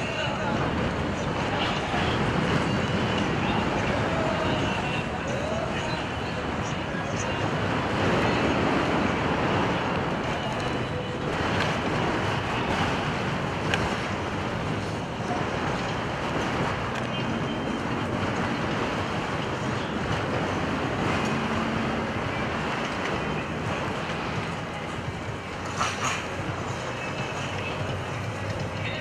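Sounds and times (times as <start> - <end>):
biplane engines droning: 0.0 - 29.0
wind buffeting microphone: 0.0 - 29.0.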